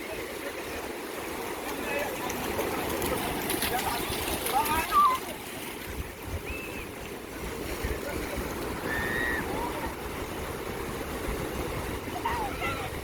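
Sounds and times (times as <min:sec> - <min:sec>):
surf washing: 0:00.0 - 0:13.0
wind rumbling on microphone: 0:02.2 - 0:13.0.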